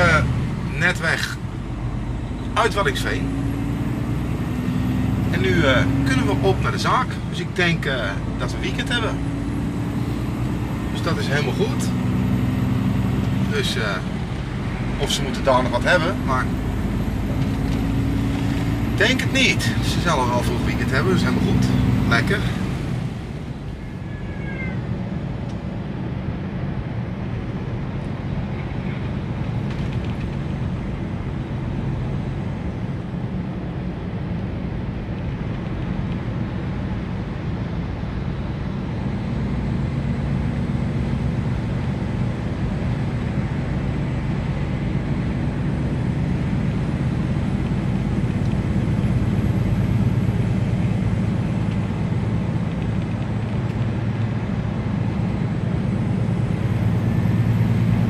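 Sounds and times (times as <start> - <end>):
diesel truck engine droning: 0.0 - 58.0
road and tyre rumble: 0.0 - 58.0.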